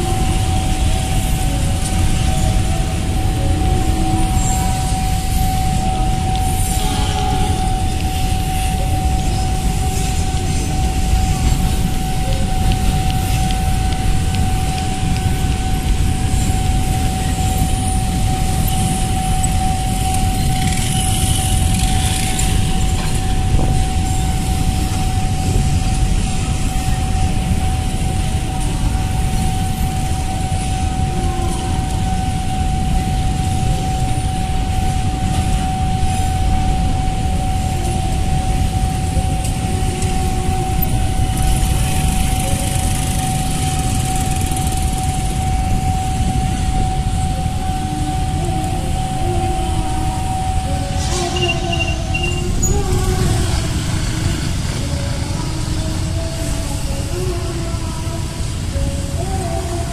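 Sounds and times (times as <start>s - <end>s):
steady high tone: 0.0s - 59.9s
train wheels rumbling on rails: 0.0s - 59.9s.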